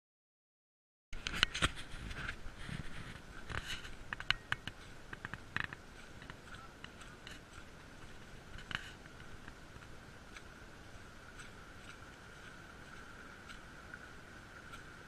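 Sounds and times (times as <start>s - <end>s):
faint high-pitched whine: 1.2s - 15.0s.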